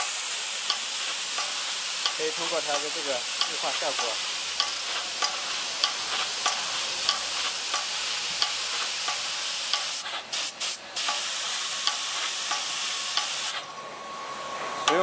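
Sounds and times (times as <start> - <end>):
air pump clicking: 0.0 - 13.6
air spray gun hissing: 0.0 - 13.6.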